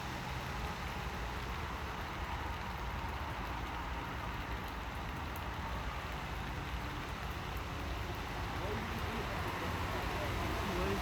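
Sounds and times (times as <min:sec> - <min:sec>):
faint ticks of raindrops: 0:00.0 - 0:11.0
steady rain falling: 0:00.0 - 0:11.0.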